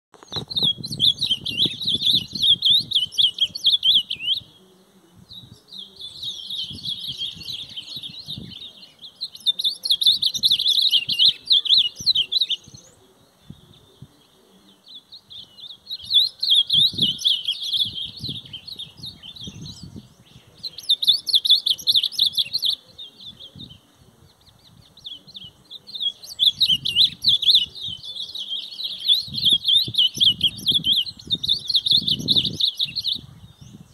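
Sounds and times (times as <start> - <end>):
songbird twittering: 0.2 - 4.6, 5.2 - 33.9.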